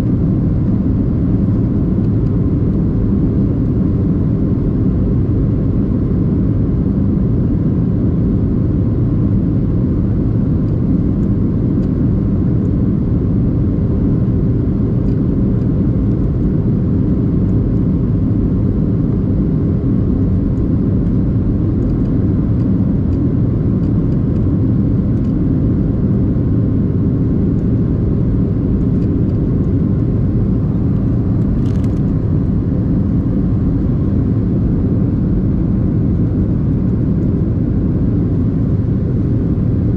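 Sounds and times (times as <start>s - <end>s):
airplane engines rumbling: 0.0s - 39.9s.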